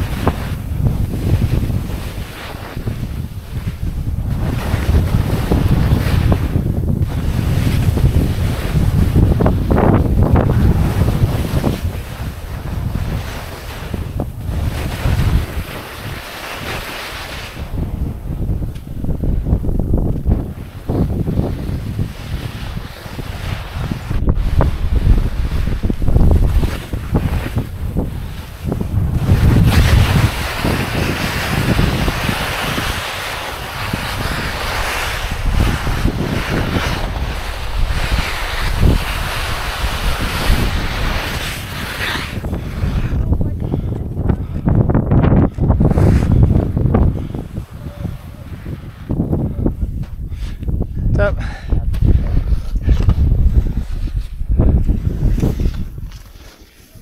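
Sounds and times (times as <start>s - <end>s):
skis scraping through snow: 0.0s - 50.6s, 52.0s - 57.0s
wind buffeting microphone: 0.0s - 57.0s.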